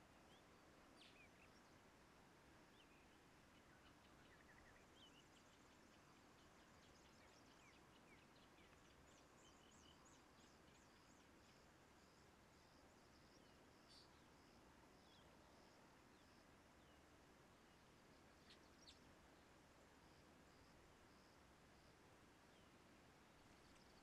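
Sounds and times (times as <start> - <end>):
faint bird chirps: 0.0 - 1.9, 2.6 - 24.0
faint steady hiss: 0.0 - 24.0.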